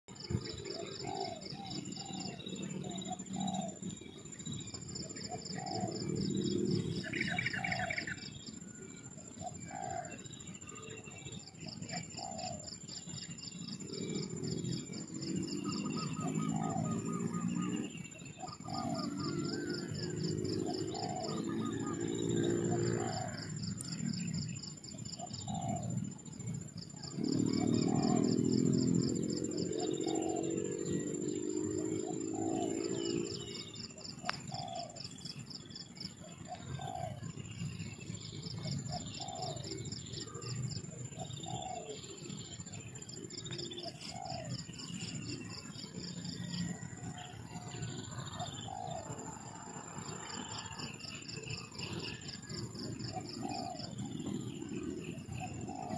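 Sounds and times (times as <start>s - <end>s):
birds chirping: 0.1s - 55.9s
lower layered bird calls: 0.1s - 55.9s.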